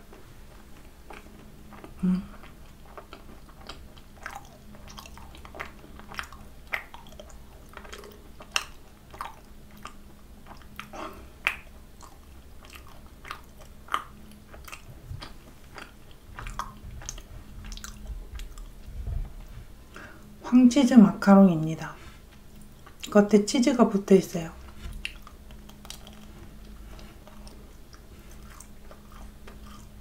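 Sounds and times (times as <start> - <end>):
mouth chewing clicks and smacks: 0.5 - 19.5, 22.3 - 23.2, 24.6 - 30.0.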